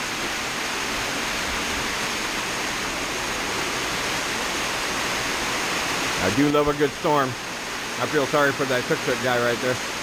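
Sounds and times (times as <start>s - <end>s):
heavy rain rushing: 0.0s - 10.0s.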